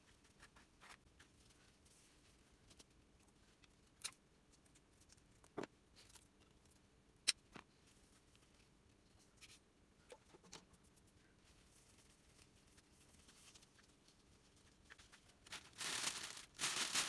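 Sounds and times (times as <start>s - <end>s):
faint clicks and rustles in soil: 0.0s - 6.9s, 7.6s - 17.0s.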